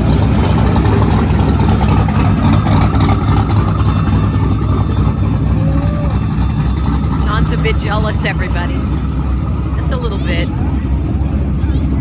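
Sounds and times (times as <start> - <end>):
car engine deep rumble: 0.0 - 12.0.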